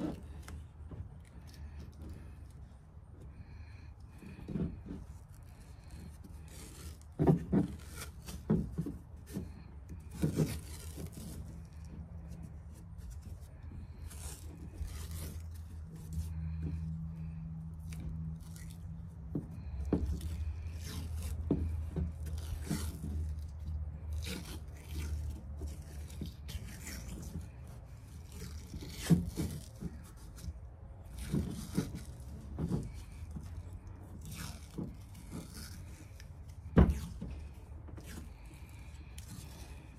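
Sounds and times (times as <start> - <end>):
low background hum: 0.0 - 39.9
sharp tape crackles: 0.0 - 39.9
tape peeling off roll: 0.0 - 39.9.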